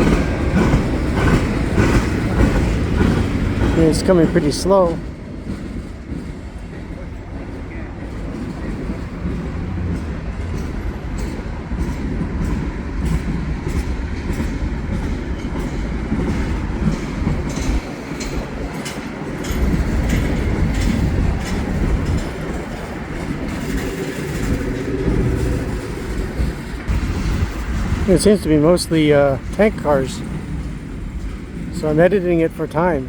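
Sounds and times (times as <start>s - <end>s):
train cars rumbling past: 0.0s - 33.0s
wheels clicking over rail joints: 0.0s - 33.0s.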